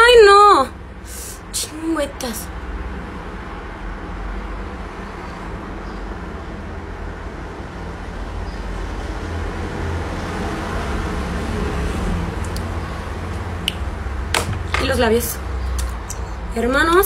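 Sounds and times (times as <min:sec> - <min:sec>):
motor vehicle rumble: 0:00.7 - 0:17.0.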